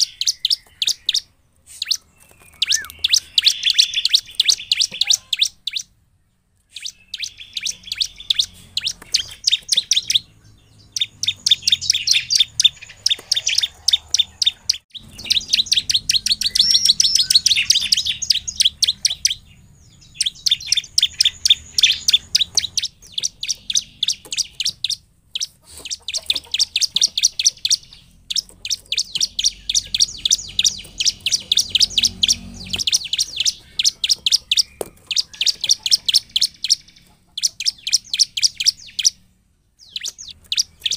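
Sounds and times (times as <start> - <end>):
bird singing rapid high chirps: 0.0 - 40.9.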